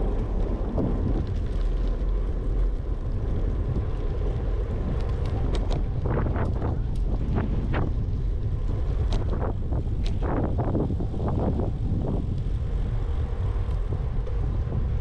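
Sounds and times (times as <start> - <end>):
bicycle tyre and road noise: 0.0 - 15.0
wind buffeting microphone: 0.0 - 15.0.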